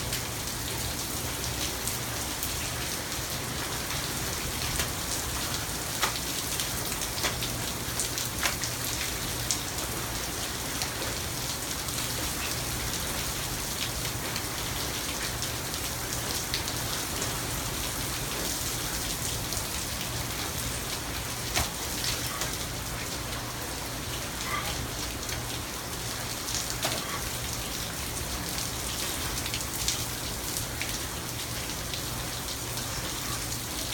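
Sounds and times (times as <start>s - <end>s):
raindrops ticking close by: 0.0s - 33.9s
steady rain falling: 0.0s - 33.9s.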